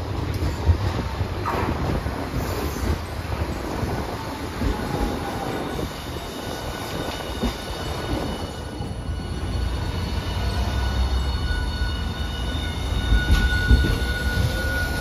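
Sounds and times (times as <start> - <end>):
streetcar wheels rumbling on rail: 0.0 - 15.0.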